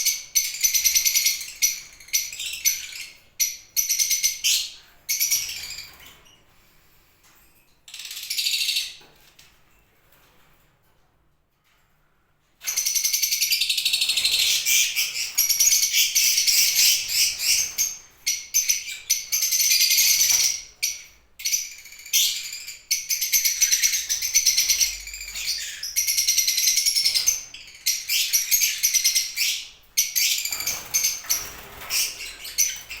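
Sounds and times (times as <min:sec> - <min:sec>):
cage birds chirping: 0:00.0 - 0:33.0.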